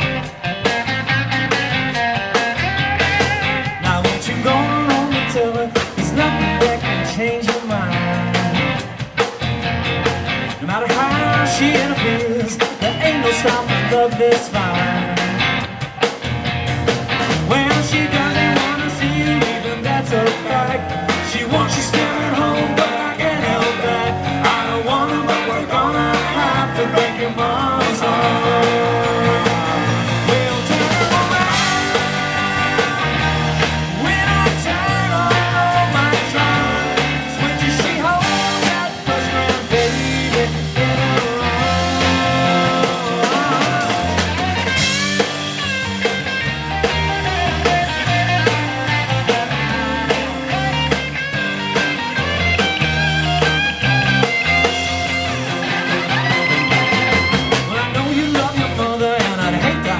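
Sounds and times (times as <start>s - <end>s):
bass guitar: 0.0s - 59.9s
drums: 0.0s - 59.9s
electric guitars: 0.0s - 59.9s
lead guitar bending: 0.0s - 59.9s.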